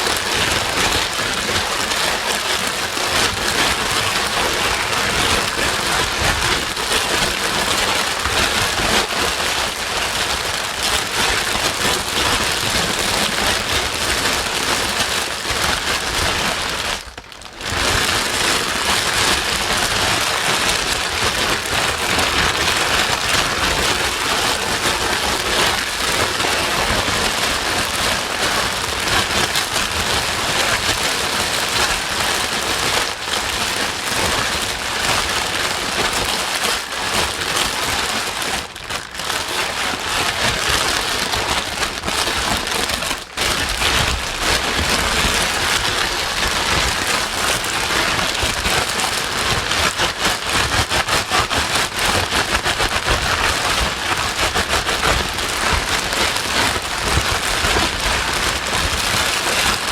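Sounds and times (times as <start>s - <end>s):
dense rain patter: 0.0s - 59.9s.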